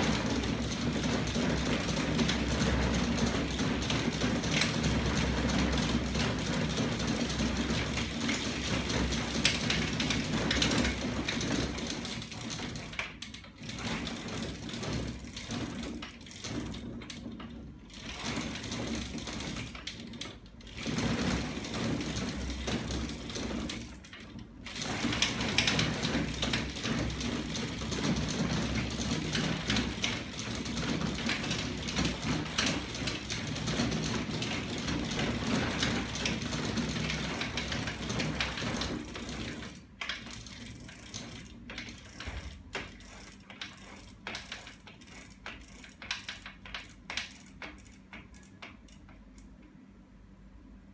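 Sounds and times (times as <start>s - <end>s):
chain drive mechanical clatter: 0.0s - 49.5s.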